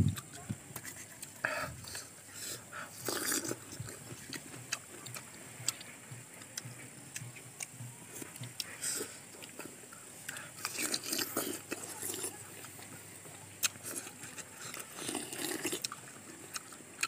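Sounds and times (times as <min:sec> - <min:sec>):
fruit crunching: 0:00.0 - 0:17.0.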